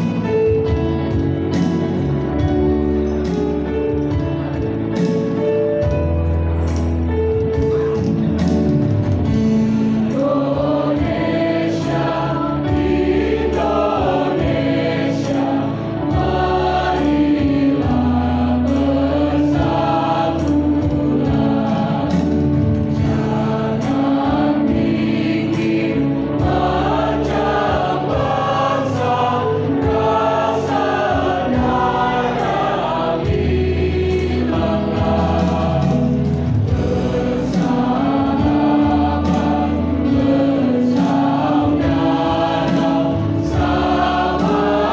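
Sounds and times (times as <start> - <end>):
mixed choir singing: 0.0 - 2.6, 9.2 - 44.9.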